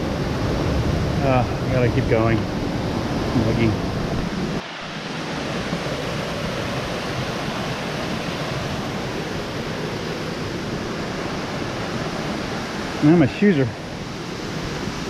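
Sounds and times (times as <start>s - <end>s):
rushing waterfall: 0.0s - 15.0s.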